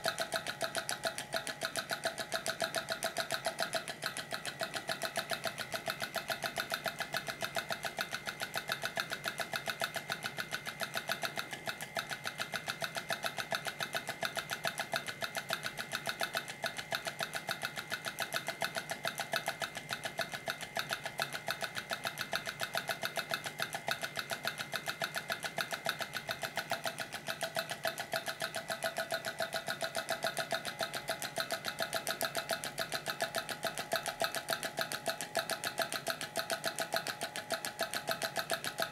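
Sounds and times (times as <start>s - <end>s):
fast mechanical percussion beat: 0.0s - 38.9s.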